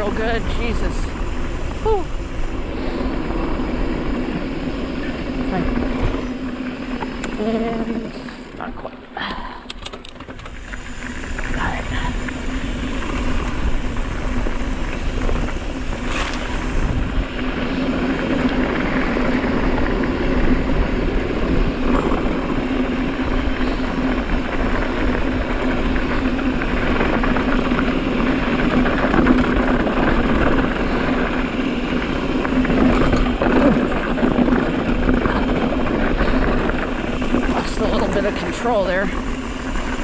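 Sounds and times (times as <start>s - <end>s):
bike rolling noise: 0.0s - 40.0s
constant low hum: 0.0s - 40.0s
wind buffeting microphone: 0.0s - 40.0s.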